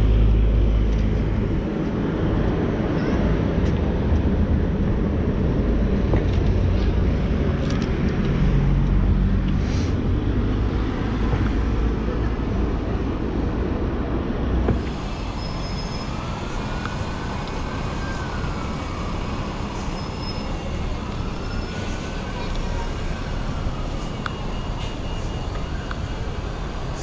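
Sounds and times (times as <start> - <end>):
engine whine: 0.0 - 27.0
traffic rumble: 0.0 - 27.0.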